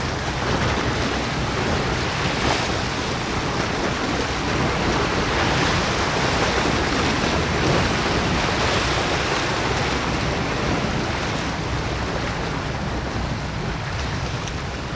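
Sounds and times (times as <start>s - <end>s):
sea waves: 0.0s - 14.9s
wind rumbling on microphone: 0.0s - 14.9s.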